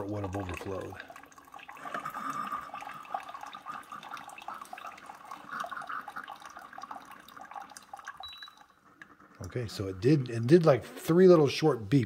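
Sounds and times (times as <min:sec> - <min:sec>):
water trickling into a mug: 0:00.0 - 0:10.5.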